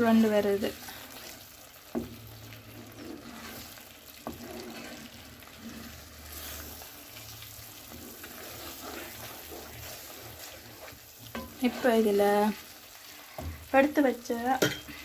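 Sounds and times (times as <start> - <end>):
soft sizzle: 0.0 - 15.0
spatula stirring thick paste: 0.0 - 15.0.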